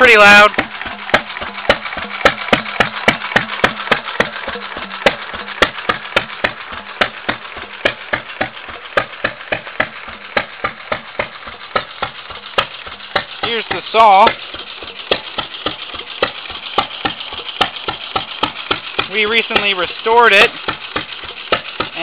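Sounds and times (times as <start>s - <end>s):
stationary engine exhaust popping: 0.0s - 22.0s.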